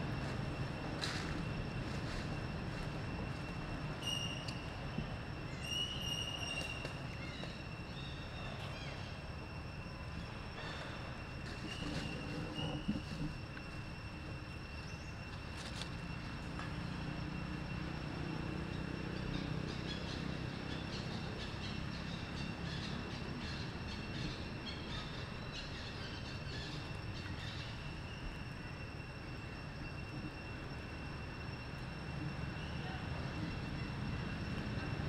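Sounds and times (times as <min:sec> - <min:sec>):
high-pitched whine: 0:00.0 - 0:35.0.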